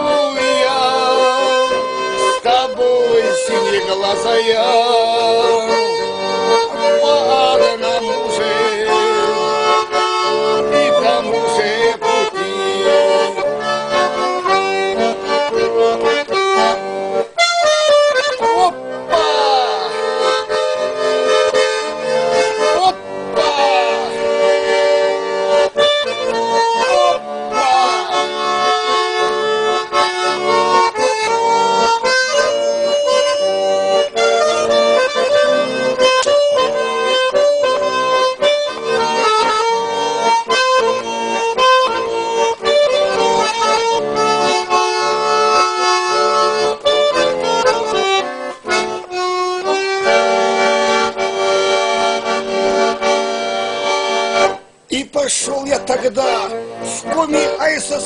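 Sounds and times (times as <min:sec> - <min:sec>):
instrumental music with sustained chords: 0:04.8 - 0:54.9.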